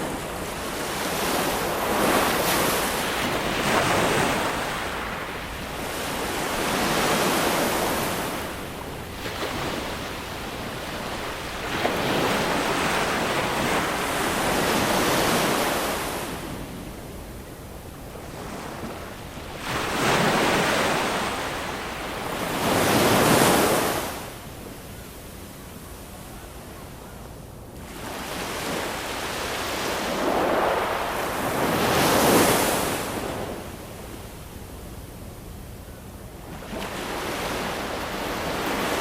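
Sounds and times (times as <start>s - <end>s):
ocean waves breaking on shore: 0.0s - 25.2s, 27.8s - 39.0s.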